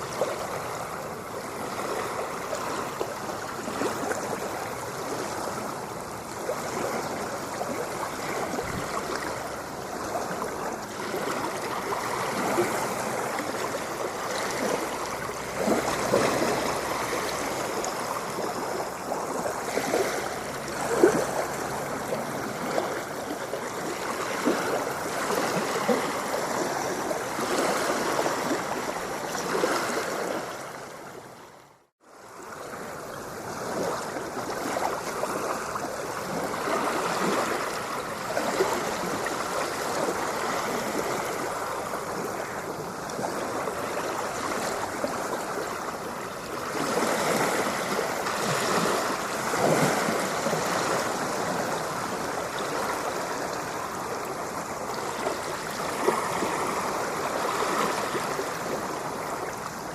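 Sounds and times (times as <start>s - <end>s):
ocean waves splashing on shore: 0.0s - 59.9s.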